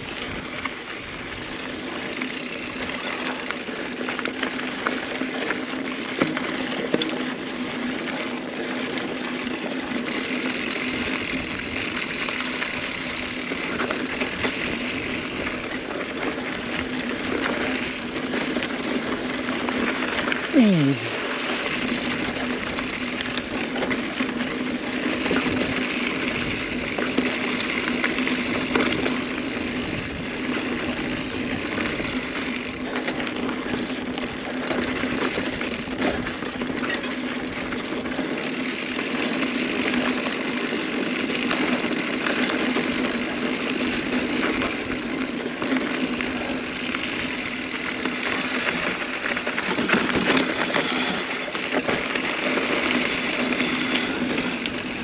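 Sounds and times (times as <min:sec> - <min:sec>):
bike rattles and knocks: 0:00.0 - 0:55.0
bike tyres rolling over gravel: 0:00.0 - 0:55.0.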